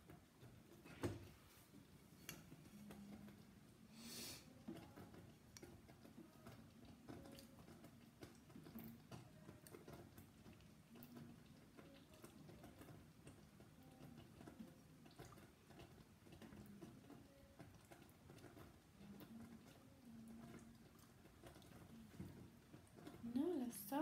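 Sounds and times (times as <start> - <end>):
jam bubbling with soft pops: 0.0 - 24.0.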